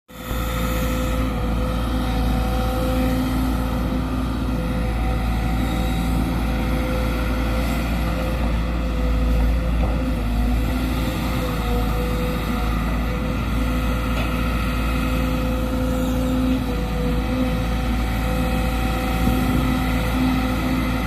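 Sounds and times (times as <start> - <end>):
excavator diesel engine running: 0.1 - 21.0.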